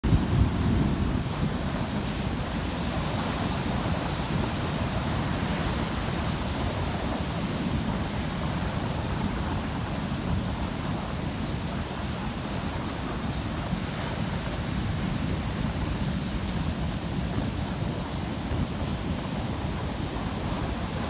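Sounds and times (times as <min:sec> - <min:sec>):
heavy surf breaking: 0:00.0 - 0:21.0.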